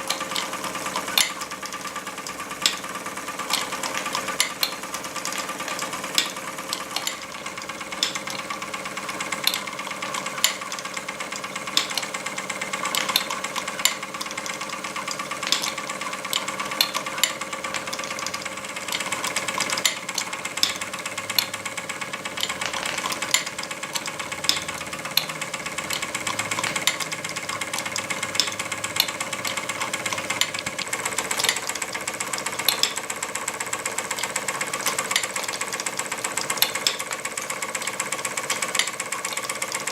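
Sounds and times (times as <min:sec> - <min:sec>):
toy hammer tapping: 0:00.0 - 0:39.9
toy steam engine whir and rattle: 0:00.0 - 0:39.9.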